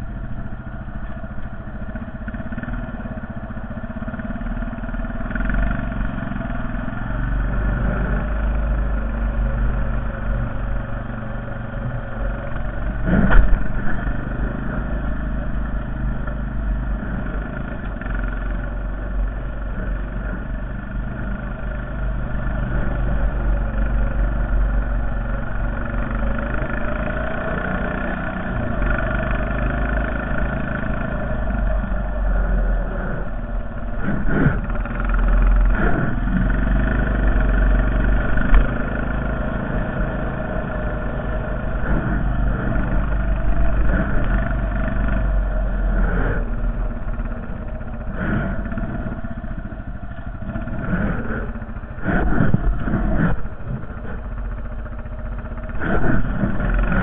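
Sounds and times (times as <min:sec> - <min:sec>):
atv engine running under throttle: 0:00.0 - 0:57.0.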